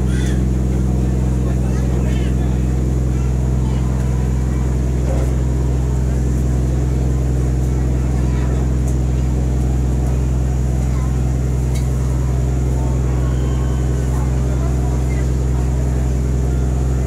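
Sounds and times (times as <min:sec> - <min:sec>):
boat diesel engine drone: 0:00.0 - 0:17.0.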